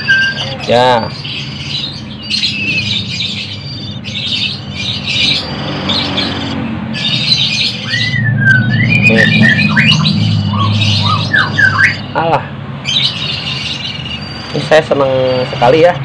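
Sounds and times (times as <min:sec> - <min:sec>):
nestlings raspy begging squawks: 0:00.0 - 0:16.0
whistled bird calls: 0:00.0 - 0:16.0.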